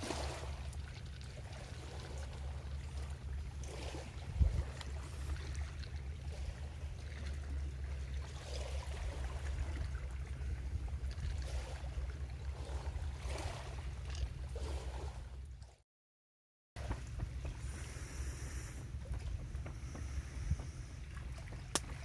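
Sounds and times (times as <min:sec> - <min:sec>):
small waves lapping on shore: 0:00.0 - 0:15.8, 0:16.8 - 0:22.0
steady low rumble: 0:00.0 - 0:15.8, 0:16.8 - 0:22.0.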